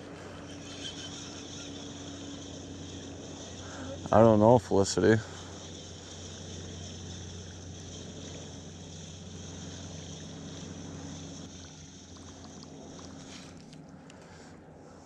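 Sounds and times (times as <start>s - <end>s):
insects chirring: 0.0s - 14.4s
low engine hum: 0.0s - 15.0s.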